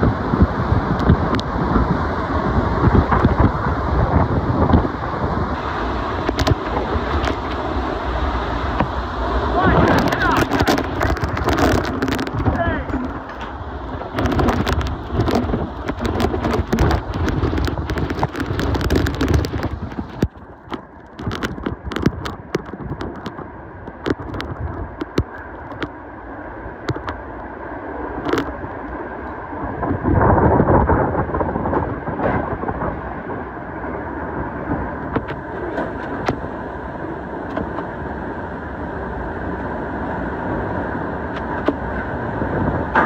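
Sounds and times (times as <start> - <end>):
rain and debris striking: 0.0 - 43.0
strong wind rumbling on microphone: 0.0 - 43.0.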